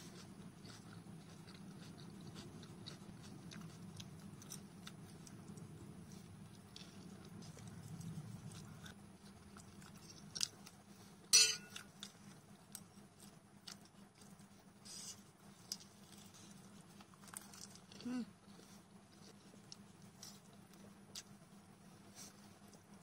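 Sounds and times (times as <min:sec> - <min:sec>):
chewing noodles: 0:00.0 - 0:23.0.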